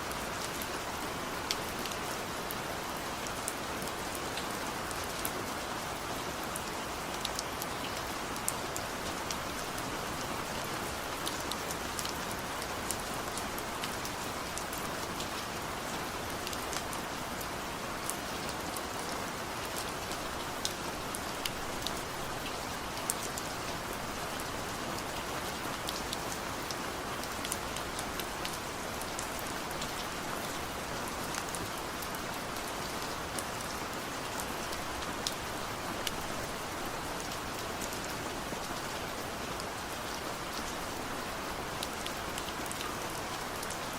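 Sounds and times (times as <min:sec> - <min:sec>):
steady rainfall: 0:00.0 - 0:43.9
raindrops ticking on a surface: 0:00.1 - 0:43.9.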